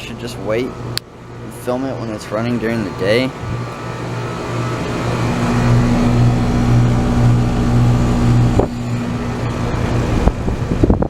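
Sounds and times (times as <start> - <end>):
compressor hum: 0.0 - 11.0
condenser fan rushing: 0.0 - 11.0.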